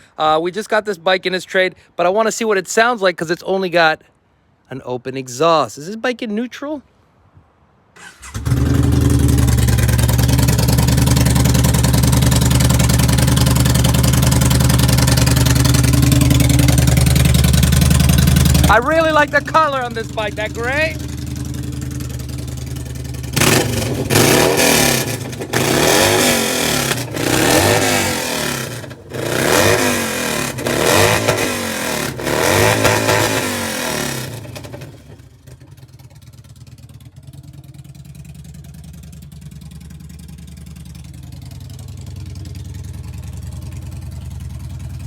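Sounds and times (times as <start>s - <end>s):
motorcycle engine revving without muffler: 8.0s - 45.0s.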